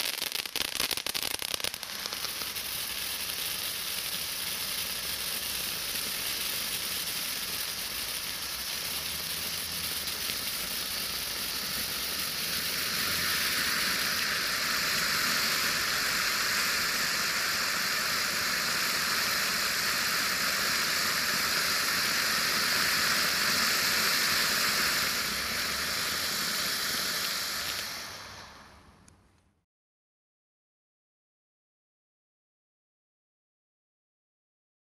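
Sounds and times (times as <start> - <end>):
firework fountain hissing: 0.0 - 29.2.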